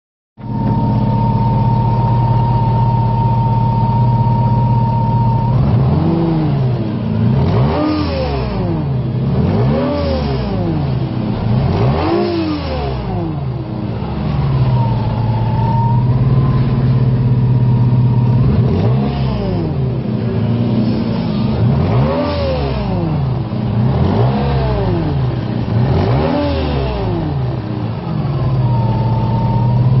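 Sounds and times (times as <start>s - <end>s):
high-pitched compressor whine: 0.4s - 7.4s, 10.3s - 23.9s, 24.6s - 30.0s
car engine idling and revving: 0.4s - 30.0s.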